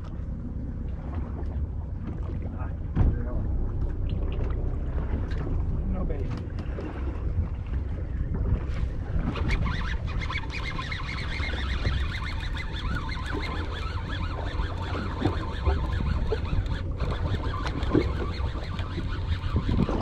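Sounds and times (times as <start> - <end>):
water noise: 0.0 - 20.0
wind: 0.0 - 20.0.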